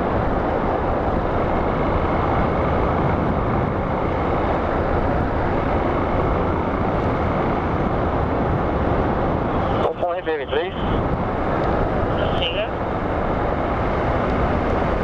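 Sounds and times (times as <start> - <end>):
road noise: 0.0 - 15.0
wind rushing on microphone: 0.0 - 15.0.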